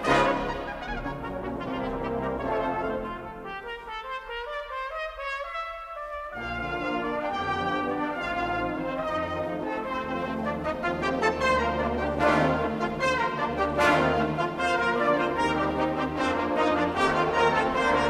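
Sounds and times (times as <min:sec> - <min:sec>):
instrumental music with held notes: 0:00.0 - 0:18.0.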